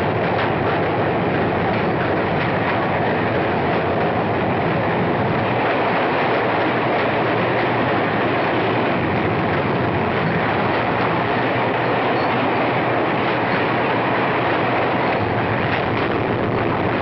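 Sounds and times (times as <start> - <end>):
train wheels on track: 0.0 - 17.0.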